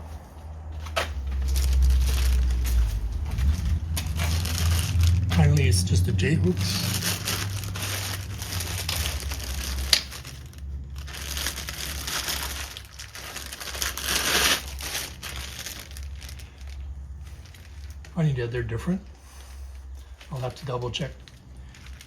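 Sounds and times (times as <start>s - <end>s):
plastic packaging crinkling: 1.0s - 18.2s, 19.8s - 22.0s.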